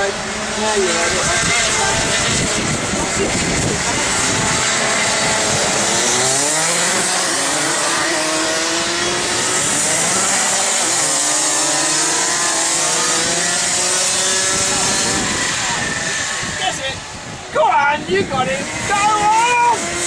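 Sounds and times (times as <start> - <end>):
racing kart engines revving: 0.0 - 20.0.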